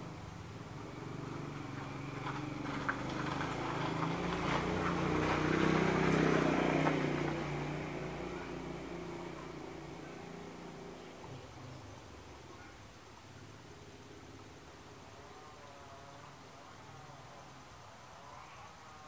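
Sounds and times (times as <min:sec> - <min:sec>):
passing vehicle engine: 0:00.0 - 0:19.0.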